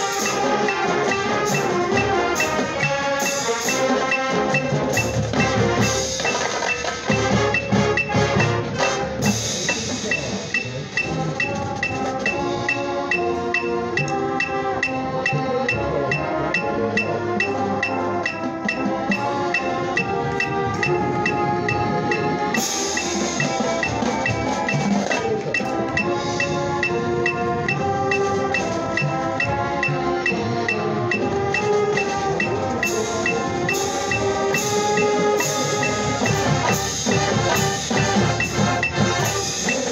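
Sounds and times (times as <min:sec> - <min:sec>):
high ticking metronome: 0:00.0 - 0:39.9
mallet percussion: 0:00.0 - 0:39.9
marching band playing: 0:00.0 - 0:39.9.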